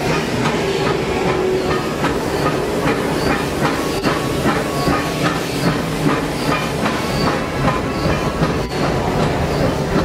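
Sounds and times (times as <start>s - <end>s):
steam hiss: 0.0s - 10.0s
steam locomotive beat: 0.0s - 10.0s.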